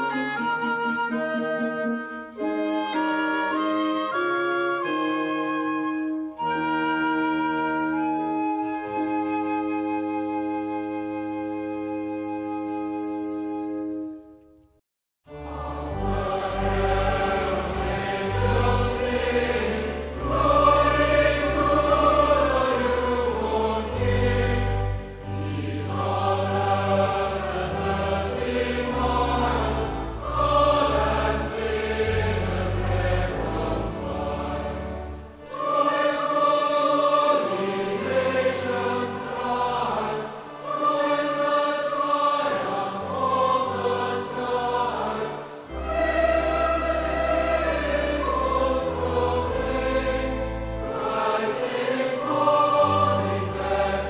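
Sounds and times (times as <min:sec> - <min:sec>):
choir singing: 0:00.0 - 0:12.8, 0:15.3 - 0:54.0.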